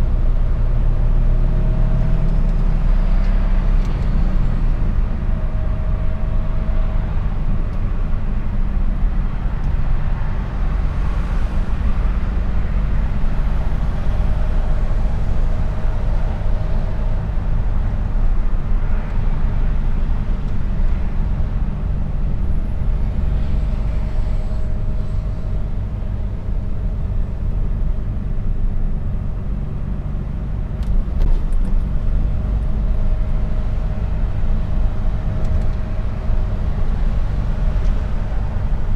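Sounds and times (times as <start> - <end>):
road noise: 0.0 - 38.9
truck engine drone: 0.0 - 38.9.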